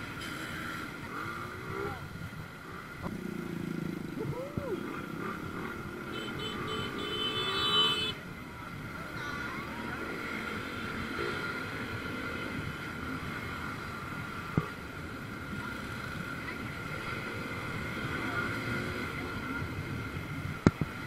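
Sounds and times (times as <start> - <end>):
motorcycle engines droning: 0.0 - 21.0.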